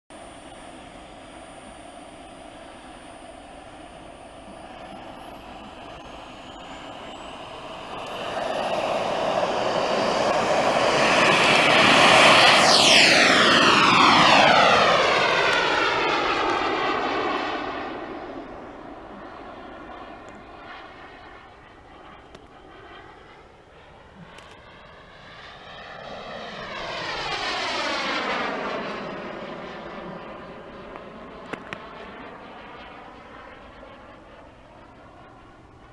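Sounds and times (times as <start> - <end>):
model jet engine whine: 0.1 - 35.9.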